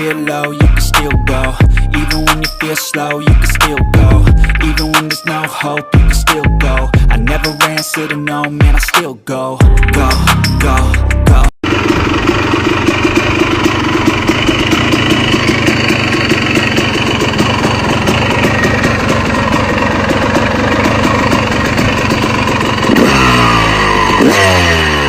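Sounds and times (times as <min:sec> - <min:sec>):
motorcycle engine idling and revving: 0:00.0 - 0:05.2, 0:05.8 - 0:08.0, 0:09.6 - 0:25.0.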